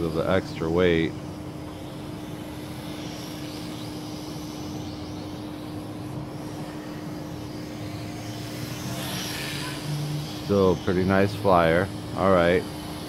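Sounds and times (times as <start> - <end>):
toy drone buzzing: 0.0 - 13.0.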